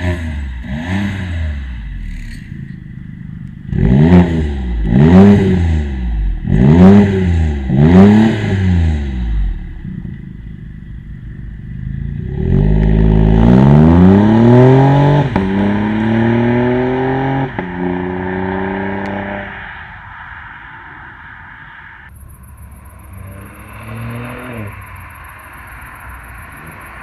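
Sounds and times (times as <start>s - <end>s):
turbo engine revving through exhaust: 0.0s - 10.4s, 11.5s - 19.4s, 22.7s - 27.0s.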